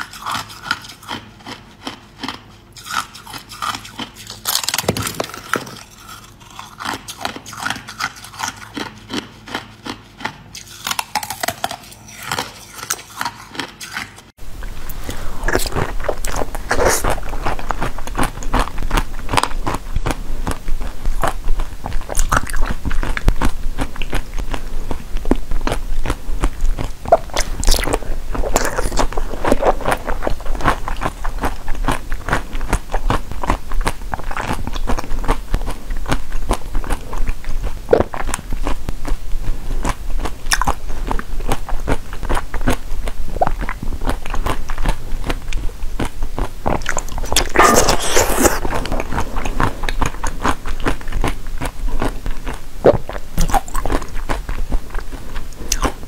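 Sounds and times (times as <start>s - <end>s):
wet crunching and chewing of jelly: 0.0s - 56.0s.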